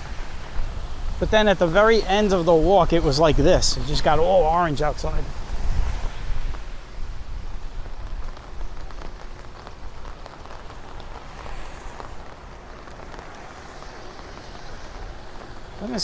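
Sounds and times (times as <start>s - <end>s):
rain falling on street: 0.0s - 16.0s.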